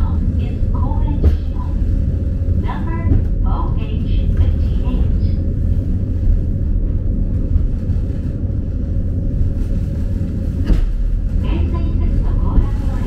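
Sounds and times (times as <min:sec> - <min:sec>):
faint steady hum: 0:00.0 - 0:13.0
train rumbling on track: 0:00.0 - 0:13.0.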